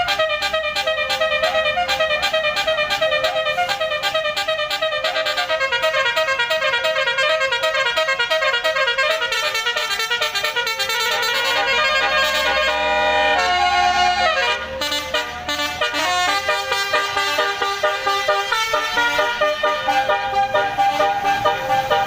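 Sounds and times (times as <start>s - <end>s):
musical air horn: 0.0s - 22.0s.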